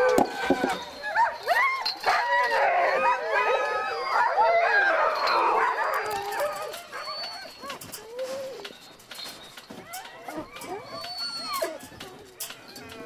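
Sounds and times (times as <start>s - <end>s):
sled dogs howling and yelping: 0.0s - 13.0s.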